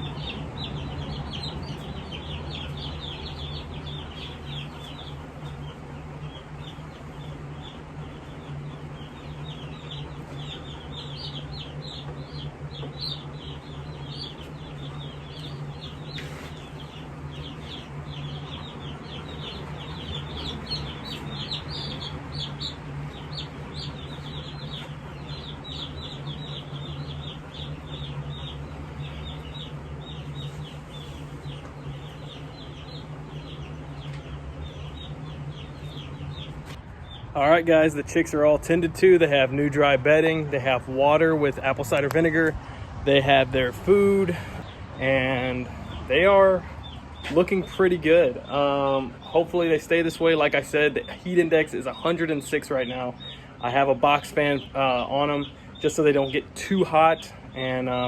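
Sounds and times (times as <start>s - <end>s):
box fan humming: 0.0s - 58.0s
chicks peeping: 0.0s - 58.0s.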